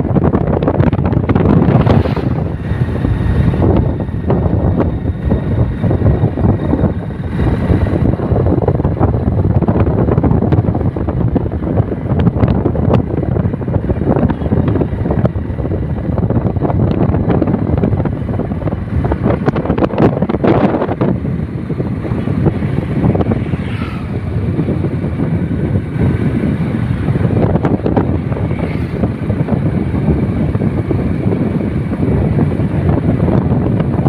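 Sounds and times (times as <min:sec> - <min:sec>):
moving vehicle rumble: 0:00.0 - 0:34.0
wind buffeting microphone: 0:00.0 - 0:34.0.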